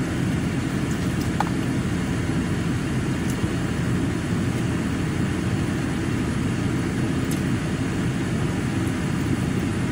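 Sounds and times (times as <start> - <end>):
car engine and ventilation rumble: 0.0 - 9.9.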